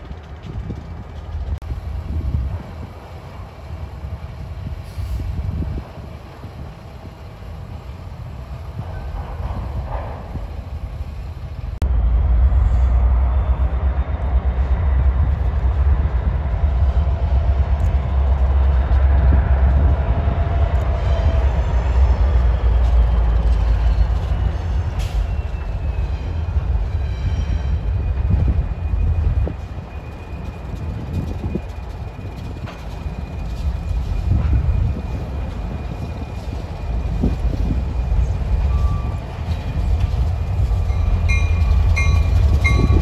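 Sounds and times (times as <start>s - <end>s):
diesel locomotive engine rumble: 0.0s - 43.0s.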